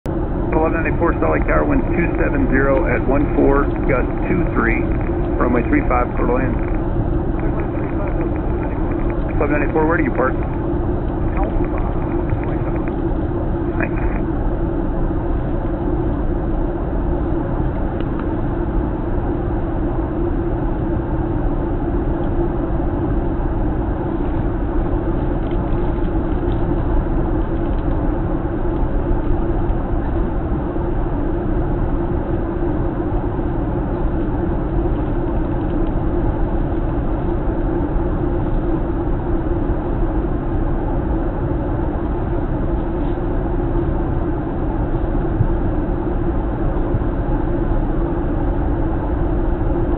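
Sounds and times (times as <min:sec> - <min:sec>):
airplane cabin engine rush: 0:00.0 - 0:49.9.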